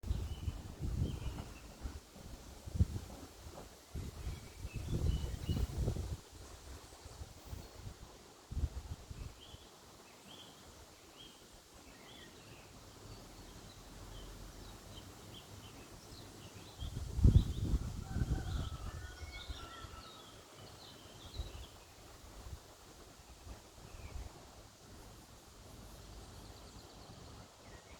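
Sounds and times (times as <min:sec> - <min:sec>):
small birds chirping: 0:02.8 - 0:08.0, 0:09.1 - 0:22.4, 0:23.2 - 0:27.9.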